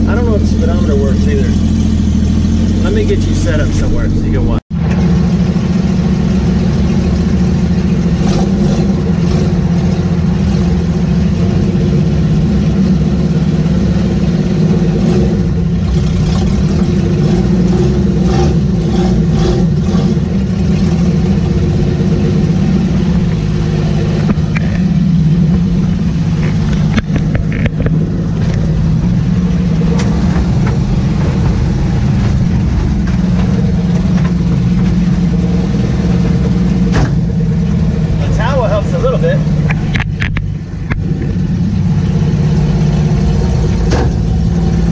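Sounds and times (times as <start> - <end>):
truck engine droning: 0.0 - 44.9.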